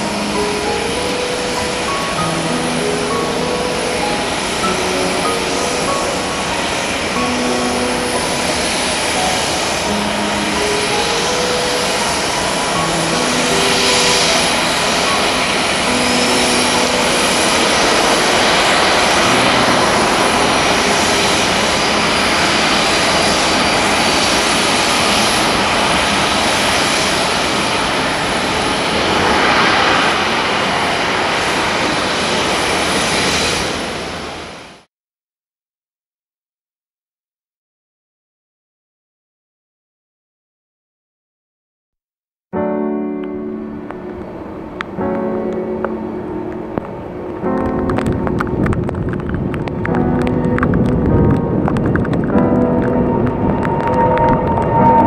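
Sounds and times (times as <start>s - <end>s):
jet engines running: 0.0s - 34.6s, 42.8s - 55.0s.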